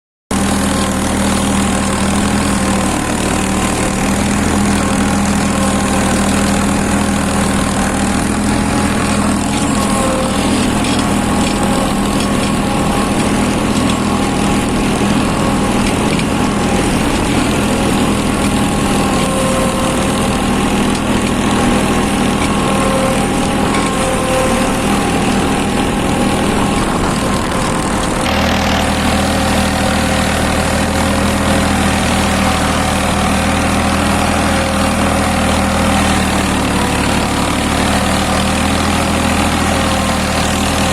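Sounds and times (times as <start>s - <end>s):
tractor diesel engine running: 0.3s - 40.9s.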